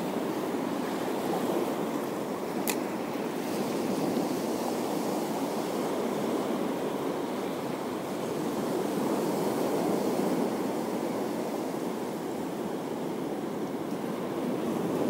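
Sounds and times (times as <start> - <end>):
sea waves on the shore: 0.0 - 15.0.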